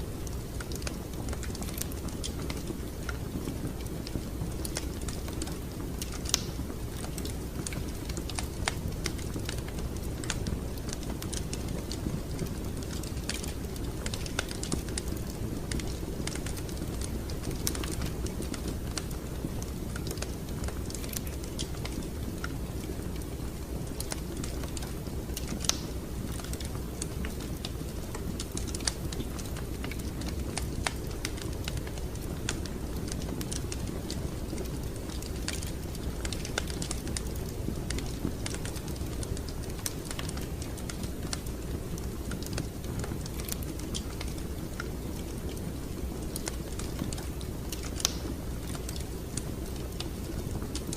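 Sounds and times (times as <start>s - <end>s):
low rumble of burning logs: 0.0s - 50.9s
wood fire crackling: 0.0s - 50.9s.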